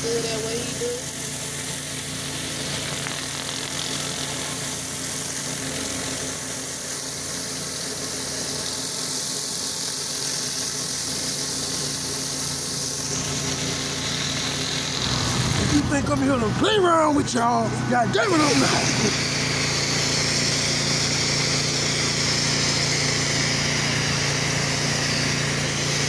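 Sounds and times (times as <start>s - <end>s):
high-pressure water spray hiss: 0.0s - 15.9s, 18.2s - 26.0s
pressure washer engine running: 0.0s - 26.0s.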